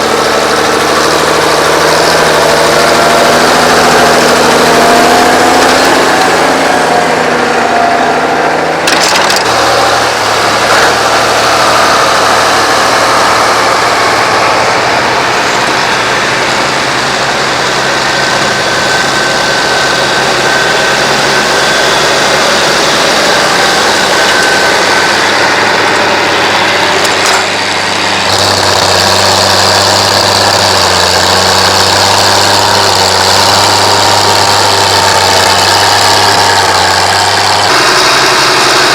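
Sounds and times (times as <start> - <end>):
tractor engines running: 0.0 - 38.9.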